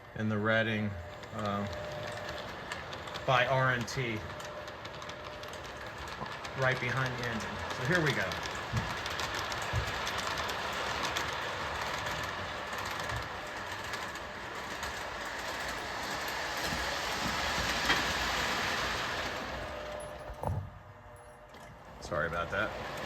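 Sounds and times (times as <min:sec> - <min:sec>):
model train rolling on rails: 0:00.0 - 0:23.0.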